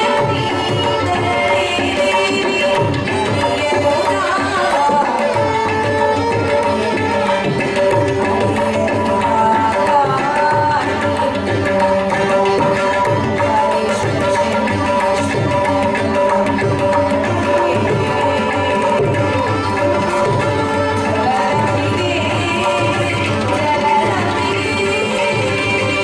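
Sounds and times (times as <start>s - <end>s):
hand drum rhythm: 0.0s - 26.0s
woman singing: 0.0s - 26.0s.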